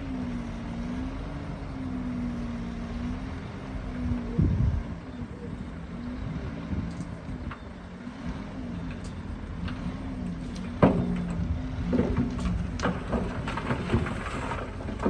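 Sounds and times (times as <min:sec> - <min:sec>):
diesel machine engine running: 0:00.0 - 0:15.0.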